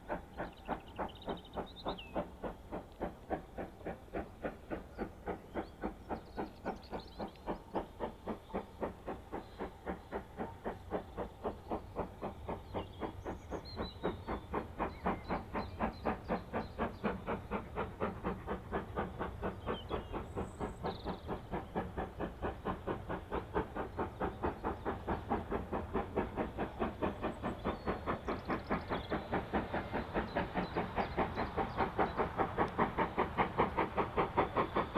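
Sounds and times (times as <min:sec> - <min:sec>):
steam locomotive exhaust beating: 0:00.0 - 0:34.9.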